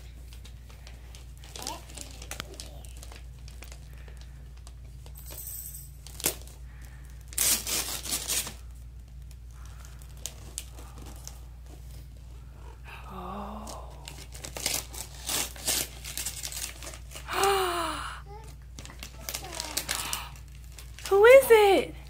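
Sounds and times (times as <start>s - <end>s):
wrapping paper tearing and crinkling: 0.0s - 5.2s, 6.0s - 12.2s, 13.4s - 21.7s.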